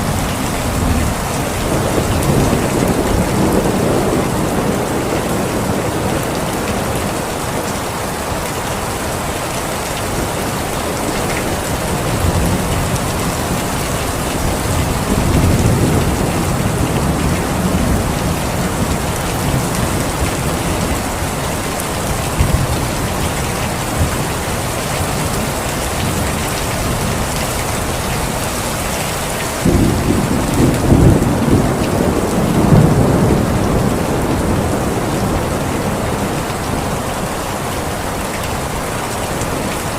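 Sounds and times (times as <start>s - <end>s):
thunder rumbling: 0.0s - 7.9s, 10.1s - 28.5s, 29.6s - 37.4s
heavy rain: 0.0s - 39.9s.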